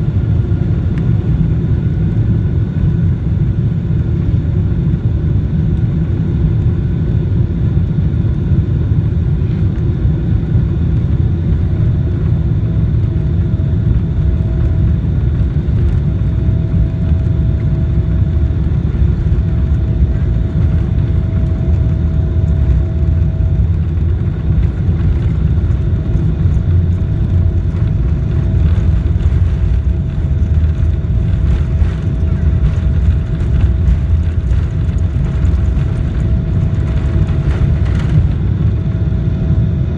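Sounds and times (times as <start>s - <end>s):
jet engine and airflow rumble: 0.0s - 39.9s
faint steady whine: 7.4s - 39.9s.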